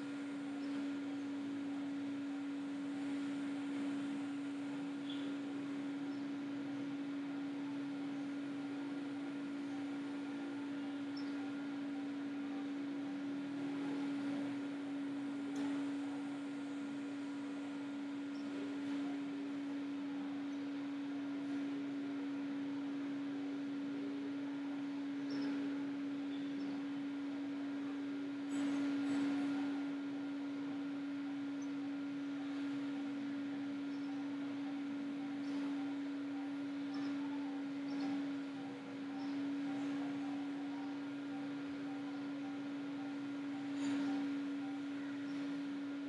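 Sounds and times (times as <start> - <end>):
computer hum with hiss: 0.0 - 46.0.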